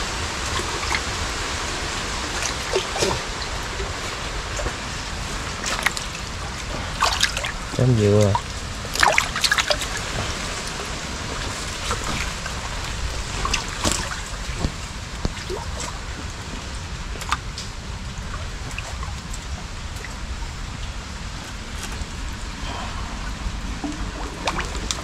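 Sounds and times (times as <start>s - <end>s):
low steady rumble: 0.0s - 25.0s
shallow water trickling and sloshing: 0.0s - 25.0s
small water splashes: 0.0s - 25.0s.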